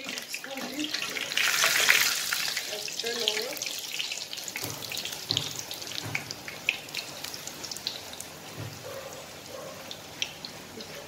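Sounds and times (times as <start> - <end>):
dough frying in hot oil: 0.0 - 11.0.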